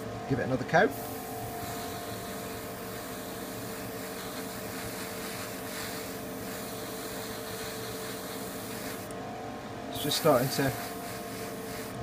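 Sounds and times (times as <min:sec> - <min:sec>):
fans humming: 0:00.0 - 0:12.0
airbrush hissing: 0:00.9 - 0:09.1, 0:10.0 - 0:12.0.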